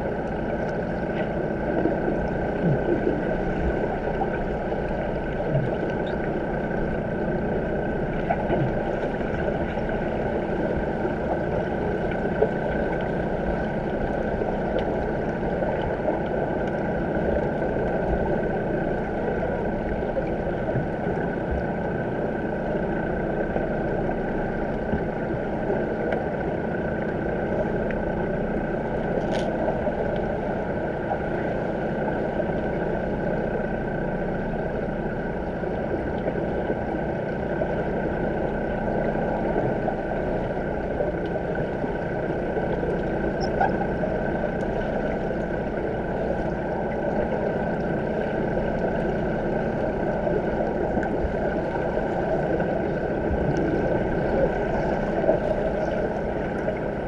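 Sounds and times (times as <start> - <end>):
steady hum: 0.0 - 57.0
underwater rumble and hiss: 0.0 - 57.0.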